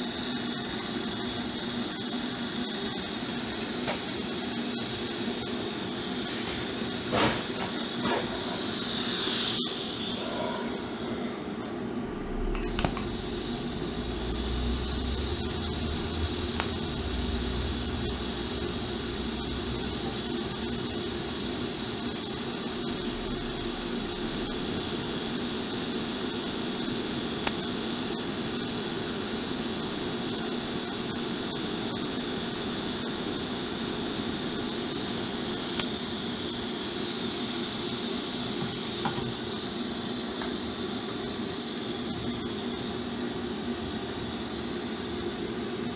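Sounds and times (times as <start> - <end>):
welding arc hissing: 0.0 - 45.9.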